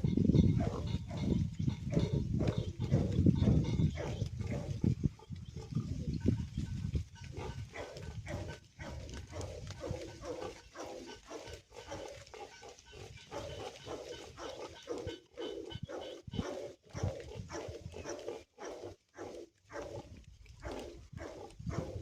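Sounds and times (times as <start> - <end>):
pigs grunting: 0.0 - 22.0.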